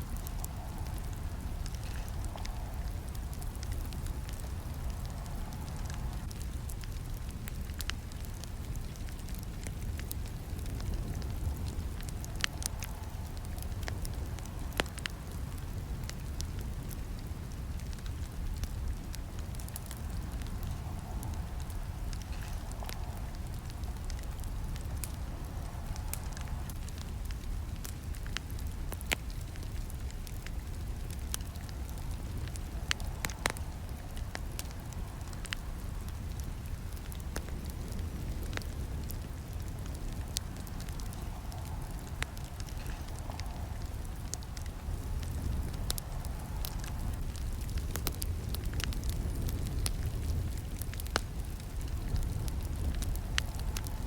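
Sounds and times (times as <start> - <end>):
campfire crackling: 0.0 - 54.0
low rumble of flames: 0.0 - 54.0.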